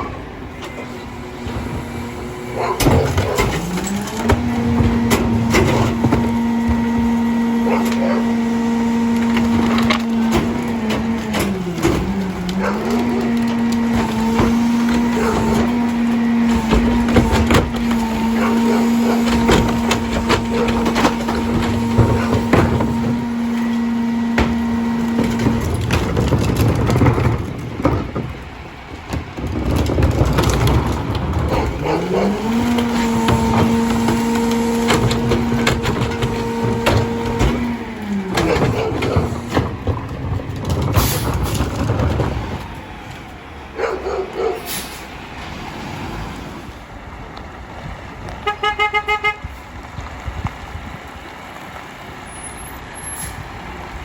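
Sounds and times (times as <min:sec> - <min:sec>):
trash crunching and splintering: 0:00.0 - 0:52.2
truck engine hum: 0:00.0 - 0:54.0.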